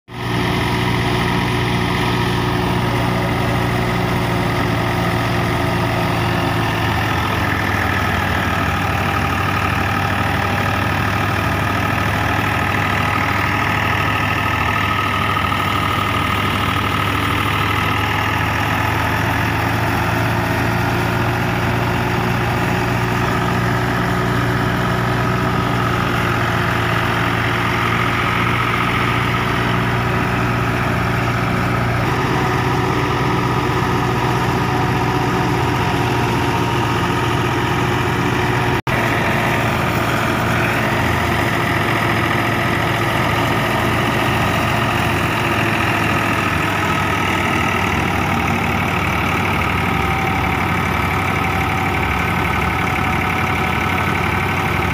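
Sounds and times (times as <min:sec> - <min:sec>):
thresher running: 0:00.1 - 0:54.9
tractor diesel engine running: 0:00.1 - 0:54.9.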